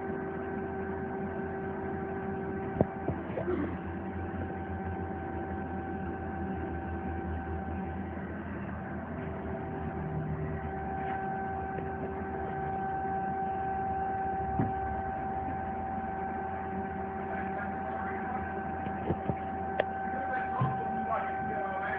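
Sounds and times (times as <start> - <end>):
lathe high-pitched whine: 0.0 - 21.9
low hum: 0.0 - 21.9.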